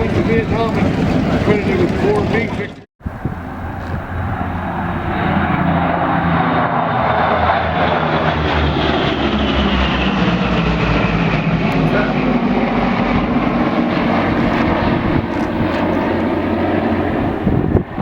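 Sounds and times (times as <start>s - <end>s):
airplane engines droning: 0.0s - 18.0s.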